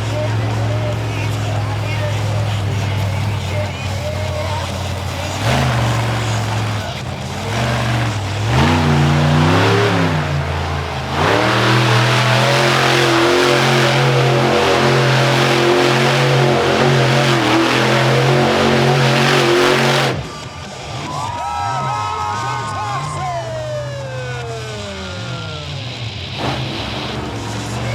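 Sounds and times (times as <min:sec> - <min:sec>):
monster truck engine revving: 0:00.0 - 0:27.9.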